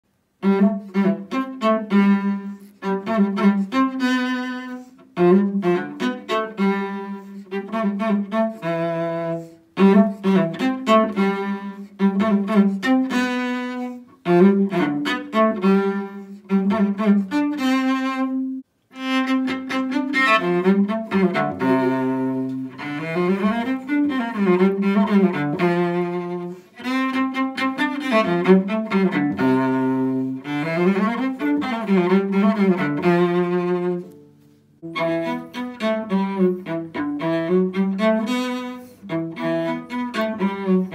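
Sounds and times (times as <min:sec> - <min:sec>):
bowed cello carol melody: 0:00.3 - 0:40.9.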